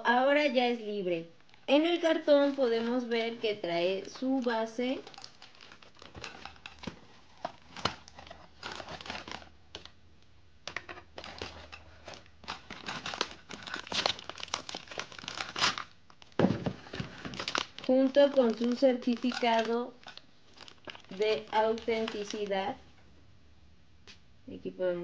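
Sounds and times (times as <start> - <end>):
paper and plastic crinkling: 1.5 - 9.9, 10.7 - 22.8.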